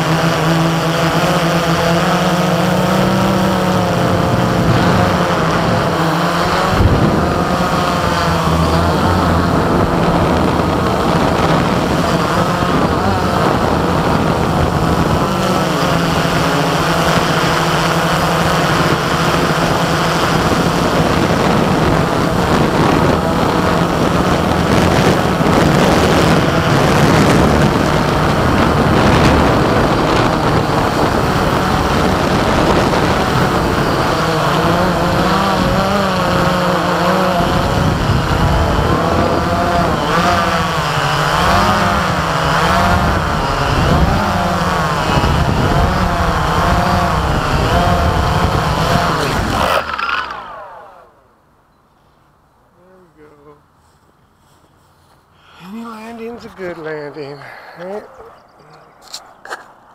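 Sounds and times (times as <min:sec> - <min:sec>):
drone propellers humming: 0:00.0 - 0:53.6, 0:54.2 - 0:59.9.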